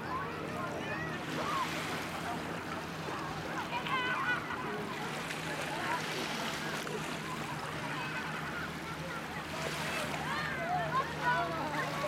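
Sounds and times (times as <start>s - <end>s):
faint distant voices: 0.0s - 12.0s
lake water washing: 0.0s - 12.0s.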